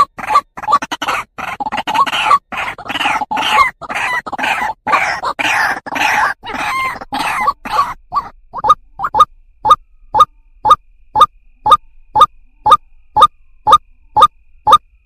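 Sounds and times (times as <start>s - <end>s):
bird harsh clucking calls: 0.0s - 14.8s.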